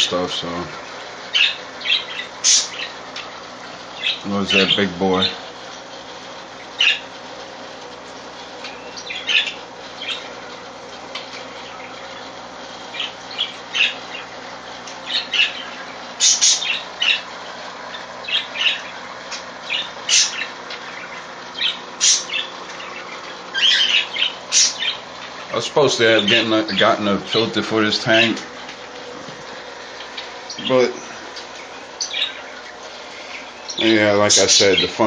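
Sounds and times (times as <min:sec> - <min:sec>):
parakeets chirping: 0:00.0 - 0:05.9, 0:06.5 - 0:07.2, 0:08.5 - 0:35.0
steady low hum: 0:00.0 - 0:35.0.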